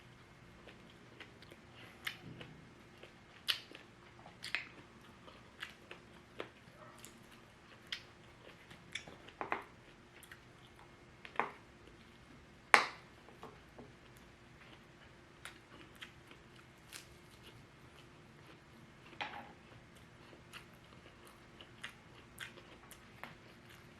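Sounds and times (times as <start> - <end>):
chewing crunches: 0.6 - 12.1, 14.0 - 23.9.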